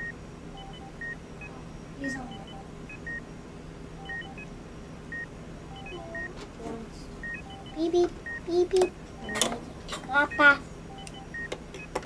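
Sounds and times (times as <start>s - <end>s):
high electronic beeps: 0.0s - 3.3s, 4.0s - 4.5s, 5.1s - 6.3s, 7.2s - 11.9s.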